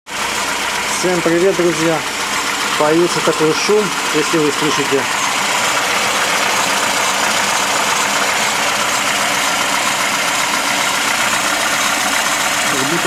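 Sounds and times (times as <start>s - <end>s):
car engine idling: 0.1s - 13.0s
alternator scraping and grinding: 0.8s - 13.0s.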